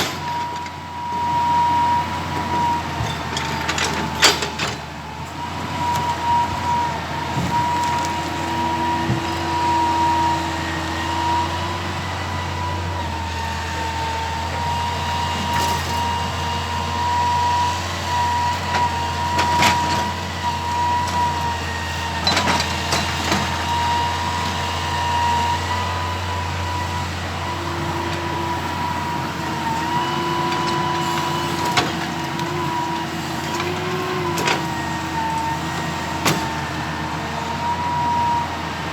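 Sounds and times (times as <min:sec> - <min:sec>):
excavator engine humming: 0:00.0 - 0:38.9
hydraulic whine: 0:00.0 - 0:38.9.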